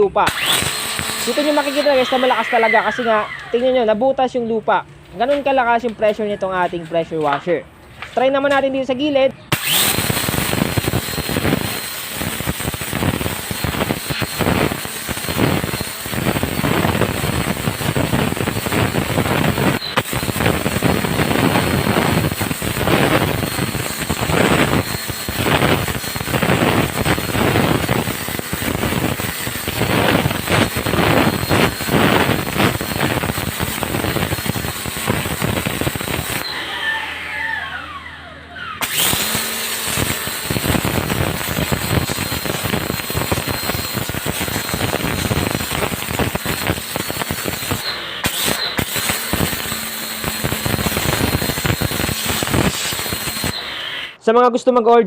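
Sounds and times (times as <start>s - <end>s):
pressure washer running: 0.0s - 3.9s, 9.5s - 38.1s, 38.8s - 54.2s.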